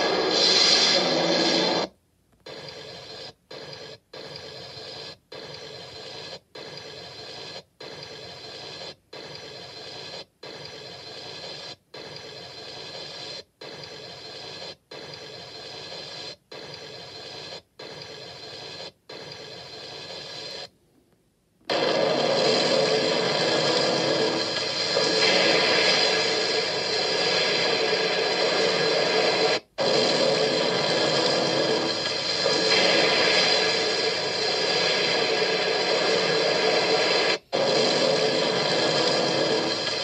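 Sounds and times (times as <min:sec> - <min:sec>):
static hiss: 0:00.0 - 0:20.8, 0:21.6 - 0:40.0.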